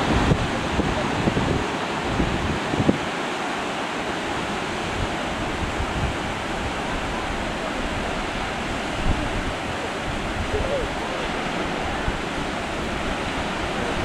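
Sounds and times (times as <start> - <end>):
surf breaking on beach: 0.0 - 14.0
wind gusting on microphone: 0.0 - 14.0.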